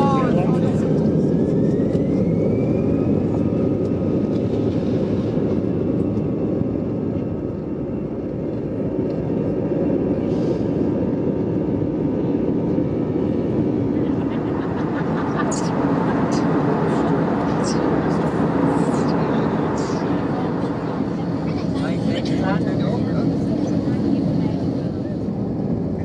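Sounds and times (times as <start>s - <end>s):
jet engines rumbling at takeoff: 0.0s - 26.0s
rising engine whine: 0.0s - 26.0s.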